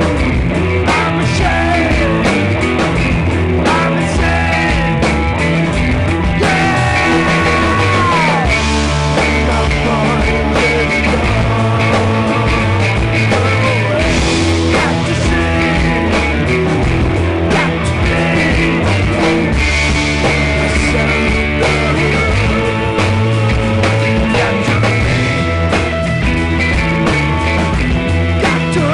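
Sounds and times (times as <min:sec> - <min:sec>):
electric guitar bending notes: 0:00.0 - 0:28.9
rock band playing: 0:00.0 - 0:28.9.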